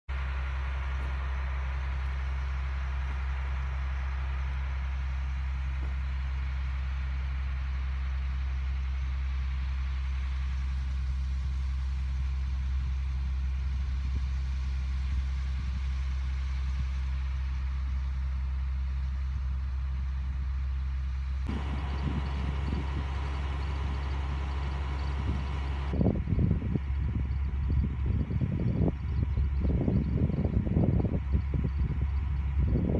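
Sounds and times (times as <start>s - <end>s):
tractor engine idling: 0.1s - 32.9s.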